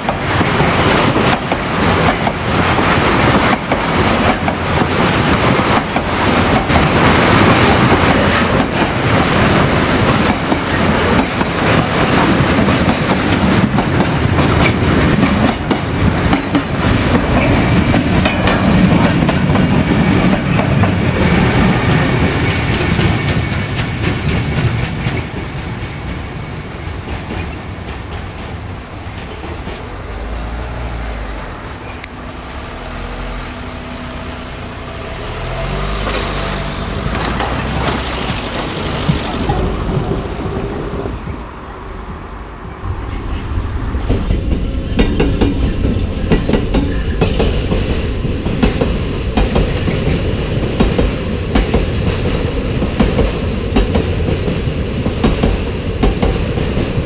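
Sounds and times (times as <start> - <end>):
train wheels clattering over rail joints: 0.0 - 32.1, 35.3 - 40.4, 44.0 - 57.0
diesel locomotive engine droning: 0.0 - 57.0.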